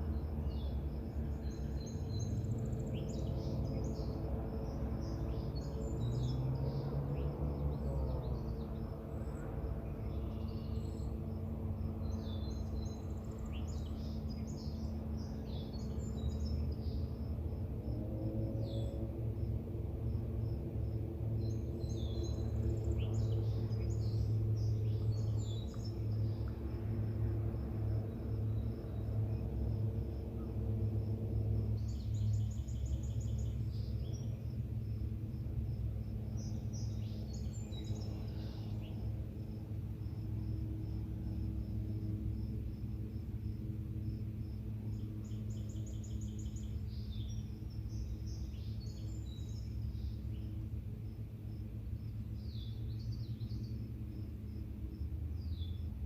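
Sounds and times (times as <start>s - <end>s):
insect chirping: 0.0s - 7.6s, 8.6s - 56.0s
songbirds singing: 0.0s - 56.0s
steady low hum: 0.0s - 56.0s.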